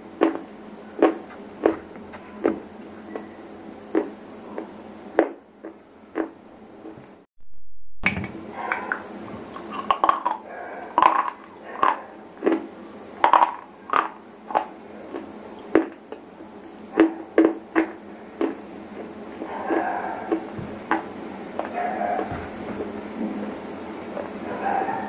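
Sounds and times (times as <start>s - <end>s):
crunching and chewing: 0.0s - 6.4s, 8.6s - 23.5s.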